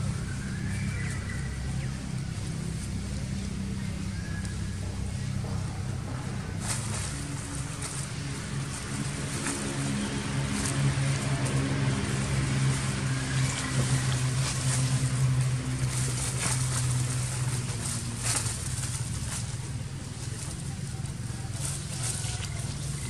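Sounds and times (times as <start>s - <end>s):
dry leaves crackling: 0.0s - 23.0s
motor engine humming: 0.0s - 23.0s.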